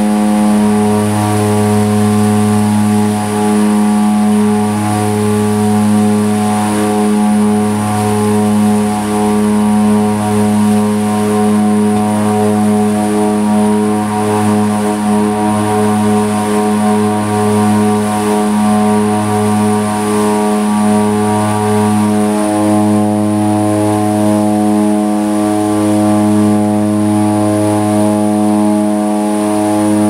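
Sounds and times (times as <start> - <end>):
turboprop propeller drone: 0.0 - 30.0.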